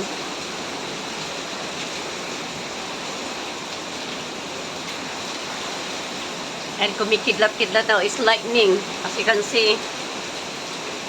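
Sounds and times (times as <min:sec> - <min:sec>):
wind and rain rushing: 0:00.0 - 0:11.0.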